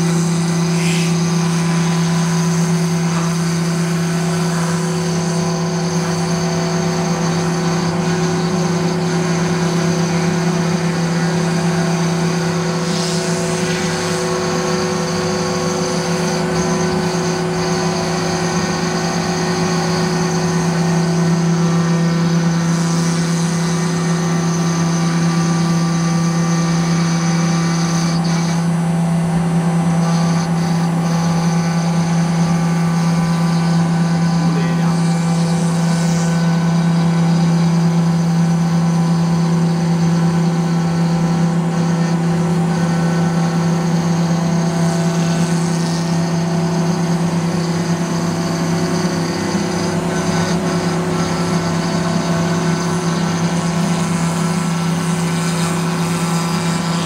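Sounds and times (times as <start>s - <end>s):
hiss of bit cutting wood: 0.0s - 28.9s, 29.8s - 38.1s, 43.2s - 57.0s
router spindle humming: 0.0s - 57.0s.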